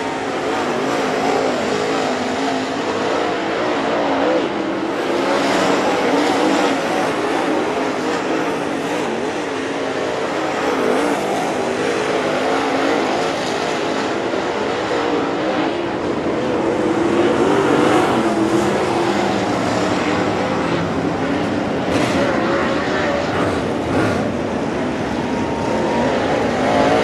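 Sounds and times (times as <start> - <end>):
race car engines running hard: 0.0 - 27.0.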